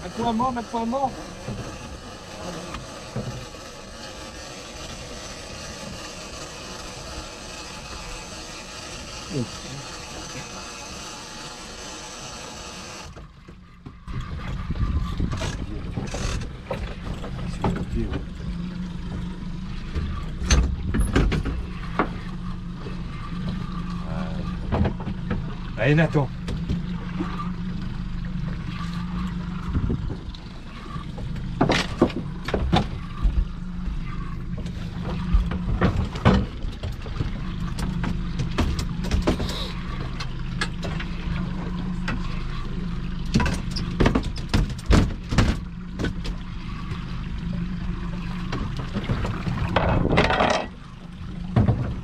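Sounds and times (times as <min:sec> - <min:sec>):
boat motor running: 0:00.0 - 0:52.0
water noise: 0:00.0 - 0:52.0.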